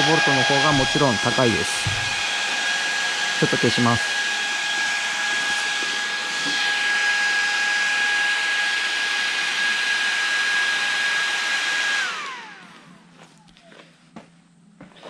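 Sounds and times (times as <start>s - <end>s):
fan whining over rushing air: 0.0s - 13.4s
fan spinning down: 0.0s - 13.5s.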